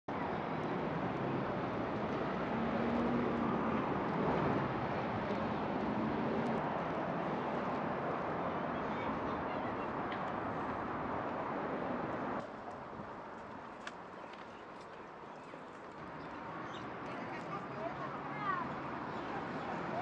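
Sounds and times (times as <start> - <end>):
street traffic noise: 0.1 - 20.0.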